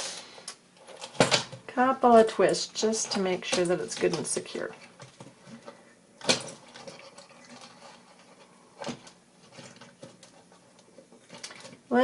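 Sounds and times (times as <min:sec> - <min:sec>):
faint handling noise: 0:00.1 - 0:12.0
wire and chain clicking rustles: 0:02.2 - 0:12.0.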